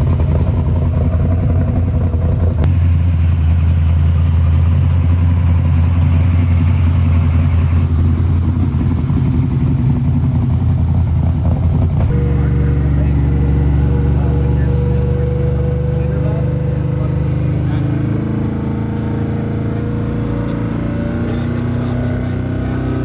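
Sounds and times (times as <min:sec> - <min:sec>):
truck engine idling: 0:00.0 - 0:19.6.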